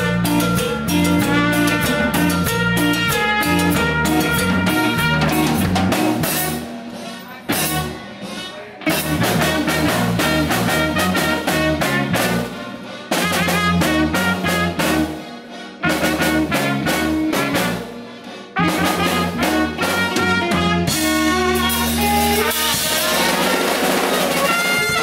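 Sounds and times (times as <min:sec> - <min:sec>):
live band playing cumbia: 0:00.0 - 0:25.0
trumpet: 0:00.0 - 0:25.0.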